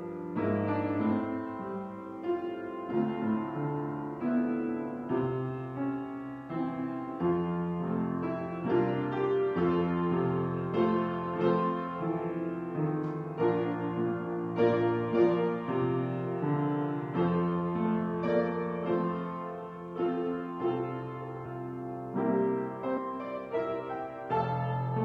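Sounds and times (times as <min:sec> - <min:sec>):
piano playing slow chords: 0:00.0 - 0:25.0.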